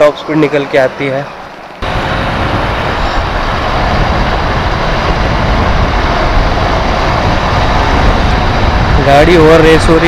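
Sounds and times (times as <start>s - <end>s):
motorcycle engine running flat out: 1.8s - 10.0s
wind rush over microphone: 1.8s - 10.0s.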